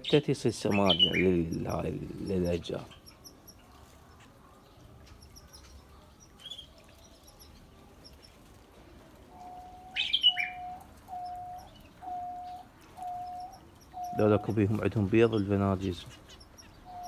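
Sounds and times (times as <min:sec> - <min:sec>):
finches chirping: 0:00.0 - 0:17.0.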